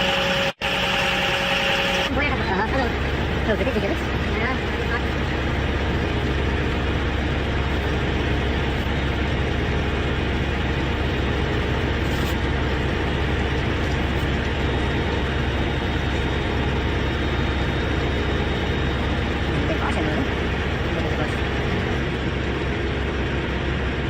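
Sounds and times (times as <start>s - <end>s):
heavy vehicle engine humming: 0.0s - 24.0s.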